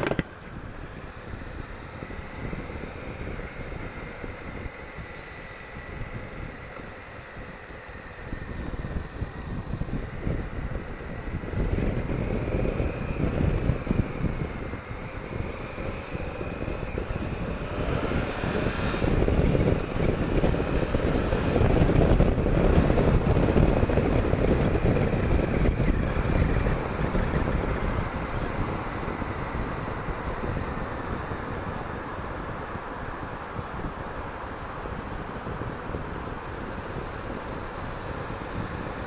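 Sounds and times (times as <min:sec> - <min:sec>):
motorcycle riding: 0:00.0 - 0:39.0
wind buffeting microphone: 0:00.0 - 0:39.0.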